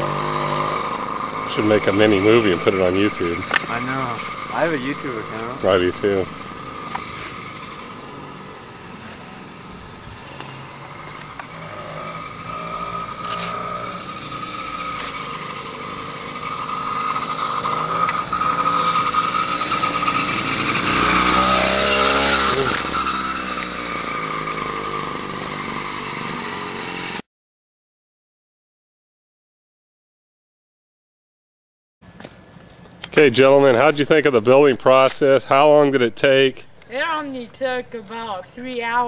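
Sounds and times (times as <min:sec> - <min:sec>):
small petrol engine whining: 0:00.0 - 0:27.2, 0:32.0 - 0:35.8, 0:36.8 - 0:39.0.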